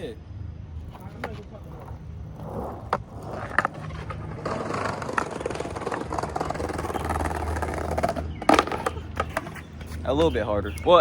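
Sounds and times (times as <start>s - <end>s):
skateboard wheels rolling on pavement: 0.7s - 11.0s
skateboard clack: 0.8s - 10.4s.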